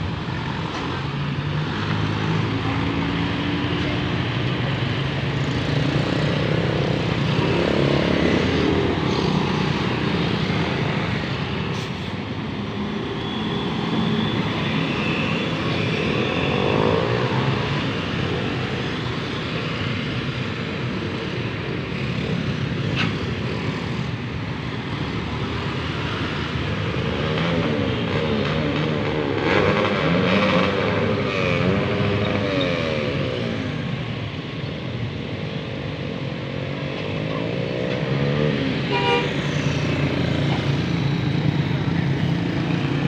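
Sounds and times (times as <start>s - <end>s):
scooters and cars passing: 0.0s - 43.0s.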